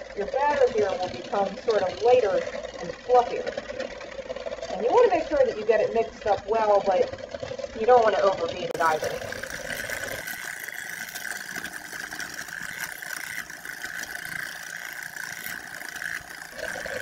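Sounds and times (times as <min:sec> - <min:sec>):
electric hand mixer whirring: 0:00.0 - 0:17.0.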